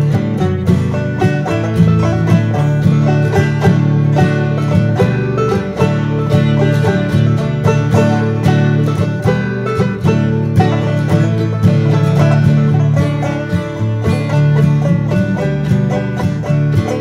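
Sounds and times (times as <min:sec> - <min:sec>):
bluegrass instrumental music: 0:00.0 - 0:17.0
picked banjo notes: 0:00.0 - 0:17.0.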